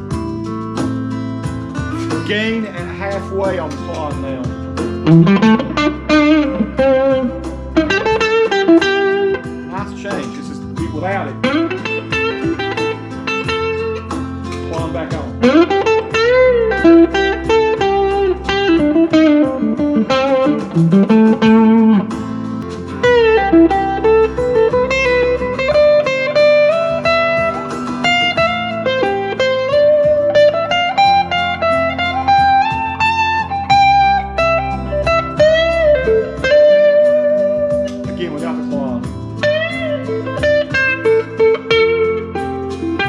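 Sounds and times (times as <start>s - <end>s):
backing track with bass and drums: 0.0s - 43.0s
overdriven electric guitar lead: 0.0s - 43.0s.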